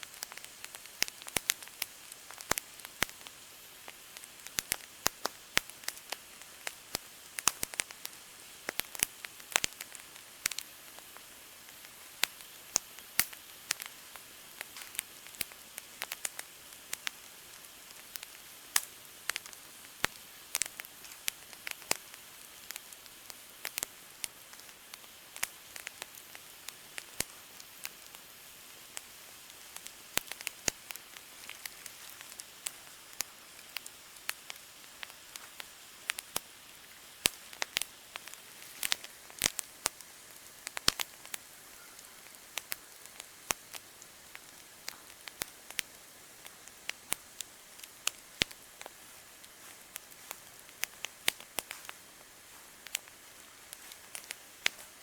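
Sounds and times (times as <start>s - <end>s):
campfire snaps and pops: 0.0s - 55.0s
fire soft hiss: 0.0s - 55.0s.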